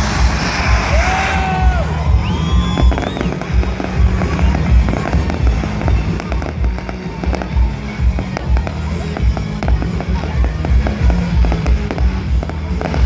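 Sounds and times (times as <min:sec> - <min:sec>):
fireworks crackling and popping: 0:00.0 - 0:13.0
loud music with heavy bass: 0:00.0 - 0:13.0.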